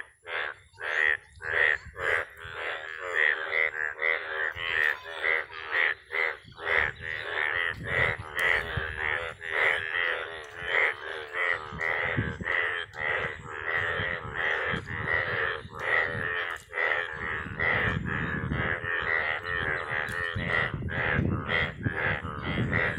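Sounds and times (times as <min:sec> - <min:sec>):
chorus of frogs croaking: 0:00.0 - 0:22.9.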